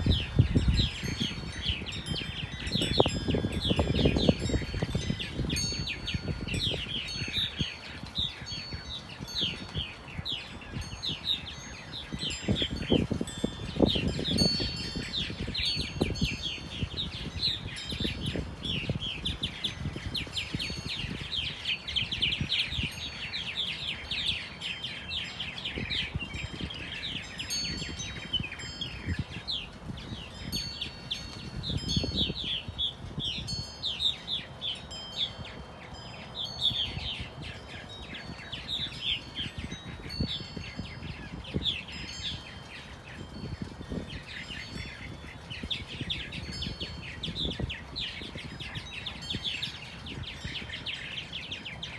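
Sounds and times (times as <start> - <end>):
birds chirping and chattering: 0.0 - 51.9
wind rumbling on microphone: 0.0 - 51.9.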